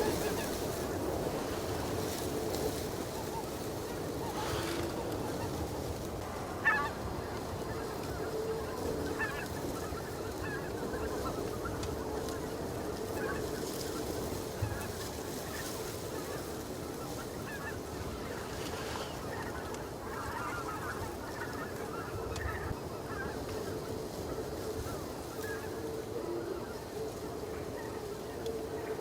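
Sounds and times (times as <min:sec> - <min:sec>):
geese calling: 0:00.0 - 0:29.0.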